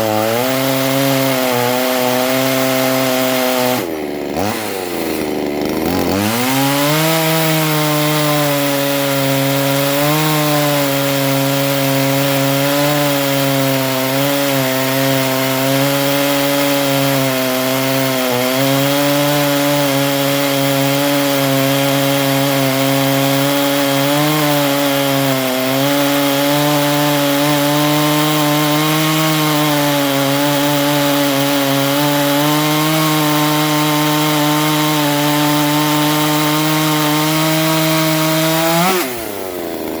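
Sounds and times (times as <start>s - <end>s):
chainsaw cutting through log: 0.0s - 40.0s.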